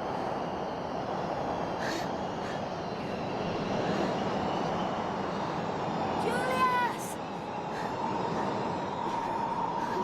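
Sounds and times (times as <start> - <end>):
snowstorm wind roaring: 0.0 - 10.0.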